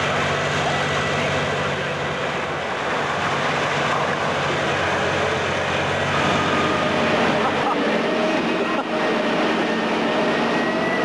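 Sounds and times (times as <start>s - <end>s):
constant rushing noise: 0.0s - 11.0s
crane engine running: 0.0s - 11.0s.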